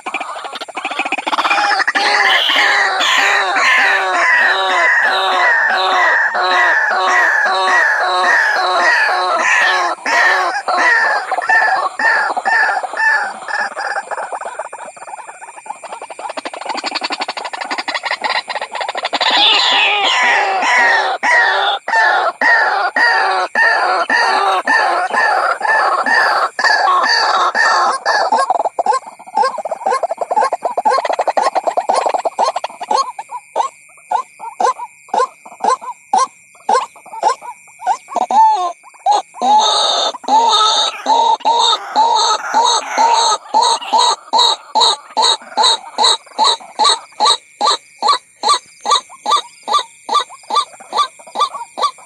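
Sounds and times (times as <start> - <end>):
bird croaking calls: 0.0 - 52.0.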